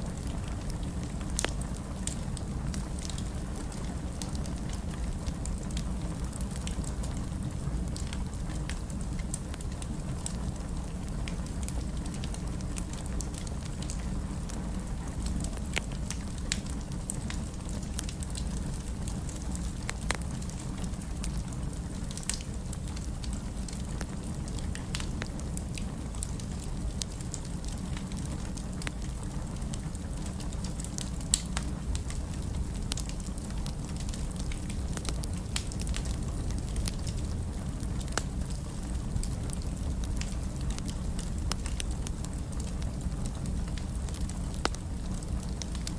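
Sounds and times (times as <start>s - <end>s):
fire crackling and popping: 0.0s - 45.9s
low fire rumble: 0.0s - 45.9s.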